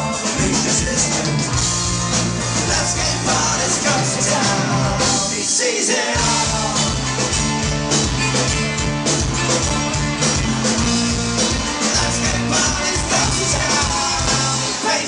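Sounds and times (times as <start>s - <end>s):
folk-punk band playing live: 0.0s - 15.0s.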